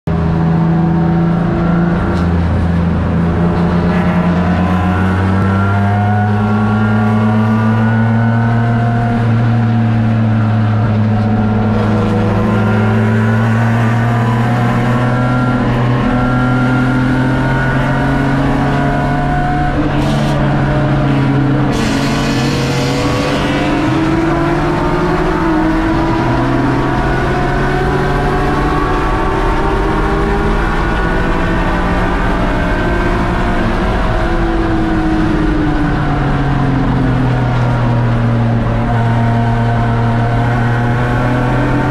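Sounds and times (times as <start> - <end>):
race car engine from inside cabin: 0.1 - 41.9.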